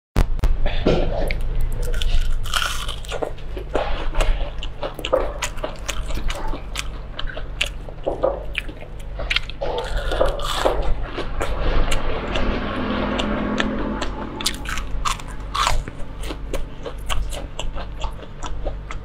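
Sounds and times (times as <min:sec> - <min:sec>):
crispy food crunching: 0:01.3 - 0:12.5, 0:14.4 - 0:19.0.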